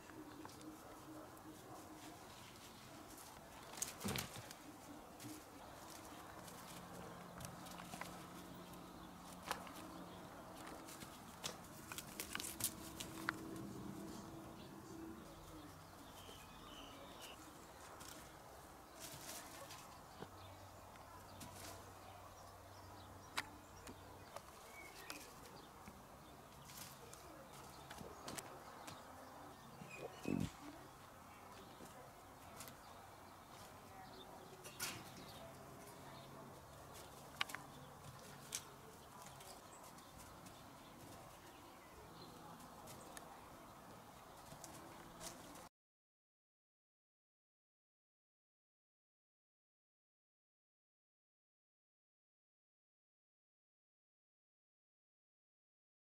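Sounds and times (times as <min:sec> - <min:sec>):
faint rustling of plant stems: 0:00.0 - 0:45.7.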